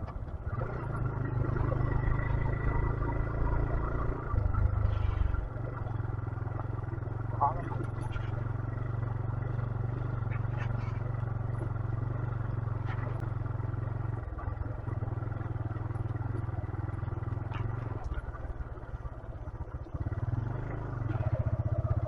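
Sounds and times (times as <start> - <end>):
motorcycle engine droning: 0.0 - 22.0.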